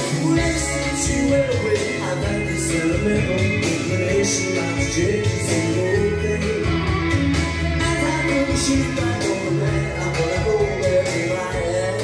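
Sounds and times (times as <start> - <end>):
guitar music from loudspeakers: 0.0 - 12.0.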